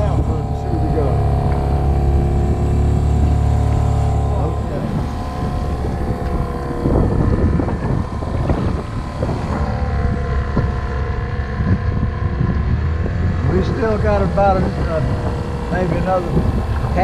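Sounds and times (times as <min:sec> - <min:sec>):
outboard motor running: 0:00.0 - 0:17.0
wind buffeting microphone: 0:00.0 - 0:17.0.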